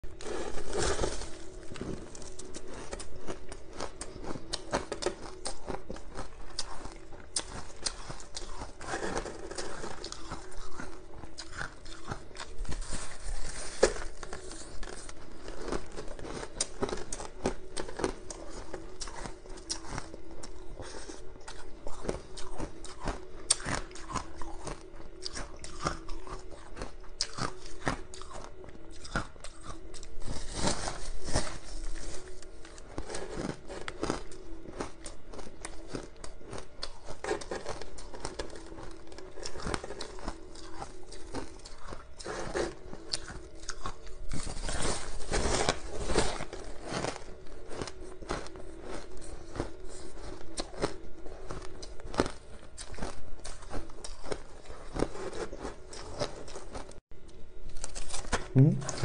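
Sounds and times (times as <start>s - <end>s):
biting and chewing ice: 0.1s - 59.0s.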